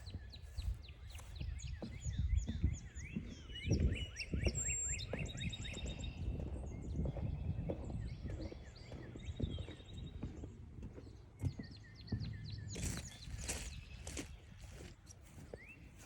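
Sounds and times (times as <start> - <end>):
footsteps on forest trail: 0.0 - 16.0
small birds chirping: 0.0 - 16.0.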